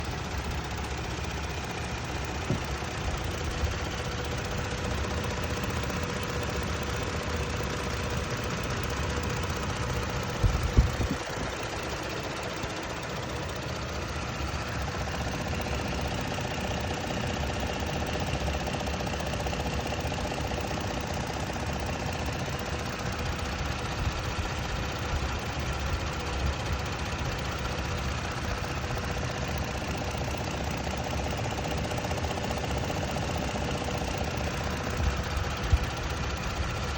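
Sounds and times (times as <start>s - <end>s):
truck engine ticking: 0.0s - 36.9s.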